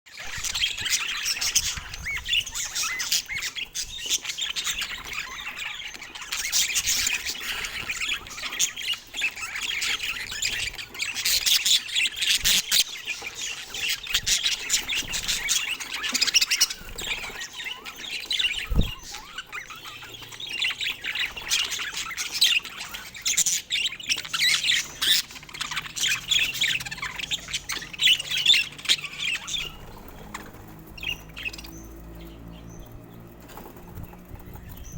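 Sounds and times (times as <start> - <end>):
budgerigars chirping and warbling: 0.2 - 34.9.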